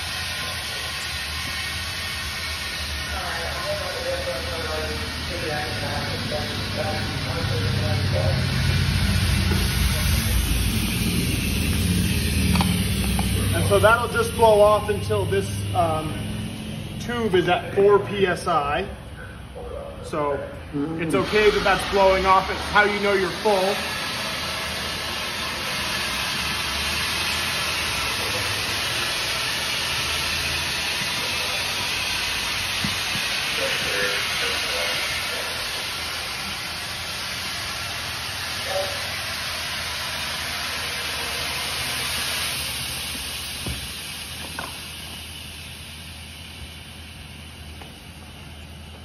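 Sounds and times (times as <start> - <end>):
compressed air hissing: 0.0 - 18.6, 21.0 - 49.0.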